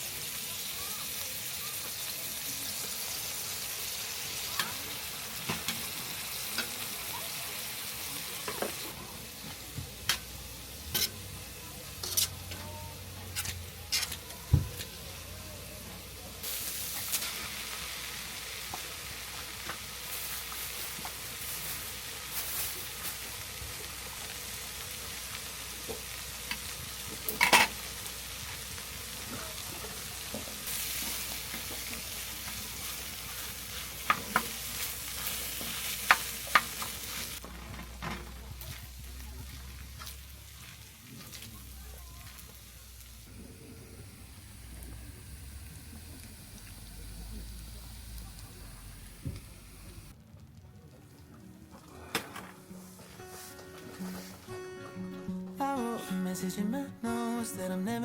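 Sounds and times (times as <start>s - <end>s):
food sizzling in a frying pan: 0.0s - 50.2s, 52.7s - 54.5s.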